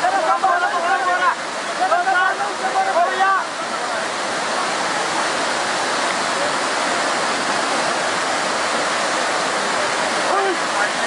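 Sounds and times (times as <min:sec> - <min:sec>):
rushing river floodwater: 0:00.0 - 0:11.0.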